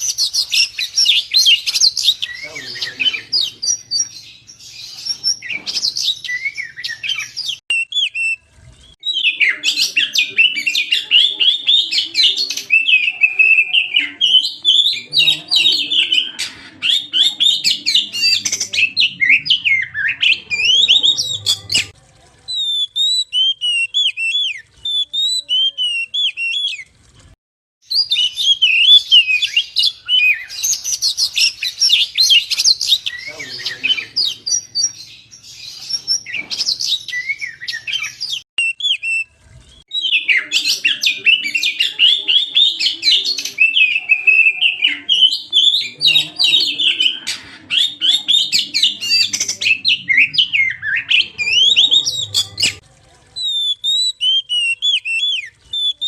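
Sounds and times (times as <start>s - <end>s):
magpie-robin singing: 0.0s - 8.4s, 9.0s - 26.9s, 27.8s - 52.8s, 53.4s - 56.0s.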